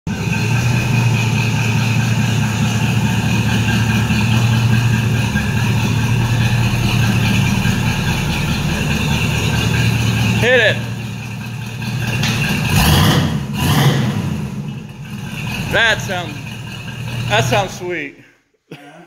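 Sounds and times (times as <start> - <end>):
car engine idling: 0.1 - 18.2.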